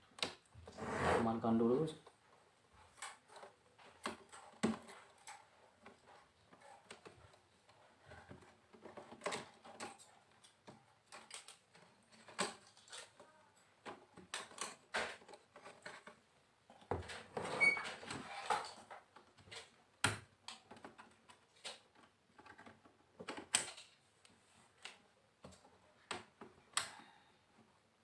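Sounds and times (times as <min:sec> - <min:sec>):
plastic and metal parts handled: 0:02.0 - 0:27.7.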